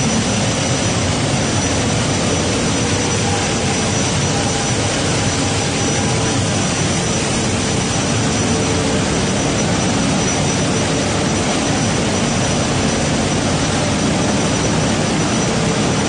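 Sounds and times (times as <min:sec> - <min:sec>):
machinery noise with high whine: 0:00.0 - 0:16.0.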